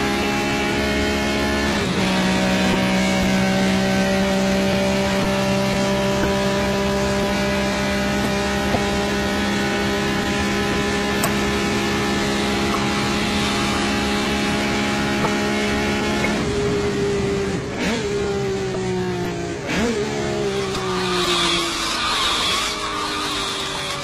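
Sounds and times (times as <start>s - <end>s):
car engine running hard: 0.0s - 24.0s.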